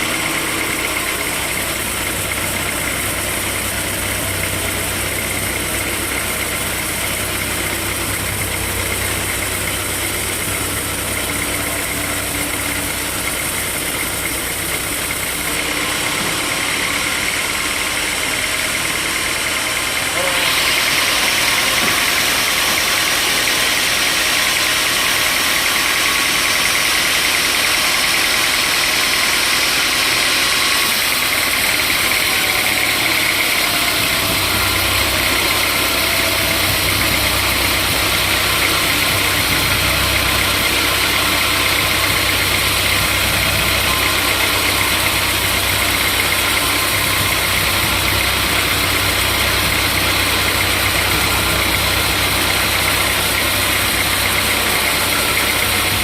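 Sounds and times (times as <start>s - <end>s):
sawmill saw and engine running: 0.0s - 56.0s.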